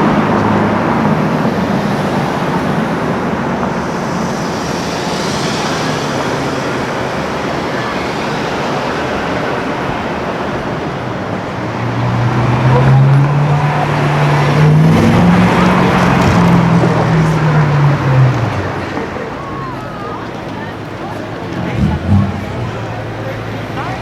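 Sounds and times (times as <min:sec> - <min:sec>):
car engine accelerating: 0:00.0 - 0:24.0
street traffic: 0:00.0 - 0:24.0.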